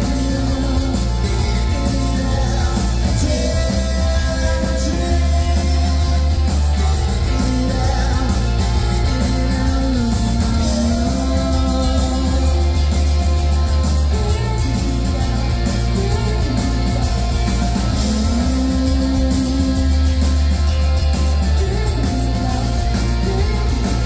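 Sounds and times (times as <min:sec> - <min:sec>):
bass guitar: 0:00.0 - 0:24.0
drum kit: 0:00.0 - 0:24.0
electric guitar: 0:00.0 - 0:24.0
man singing: 0:00.0 - 0:24.0.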